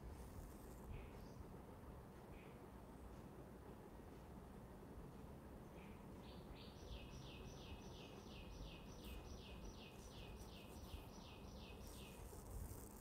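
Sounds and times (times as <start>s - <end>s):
faint low room noise: 0.0s - 13.0s.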